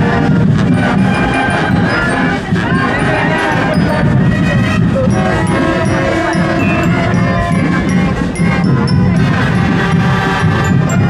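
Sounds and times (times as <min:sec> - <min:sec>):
marching band playing: 0:00.0 - 0:11.0.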